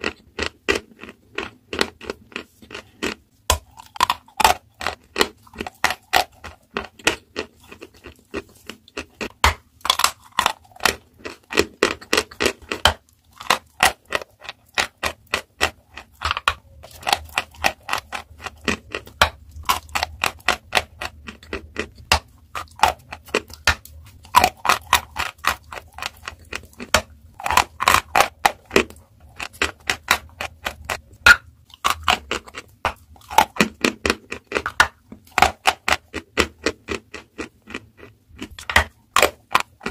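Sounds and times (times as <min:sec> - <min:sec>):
chalk being bitten and chewed: 0:00.0 - 0:39.9.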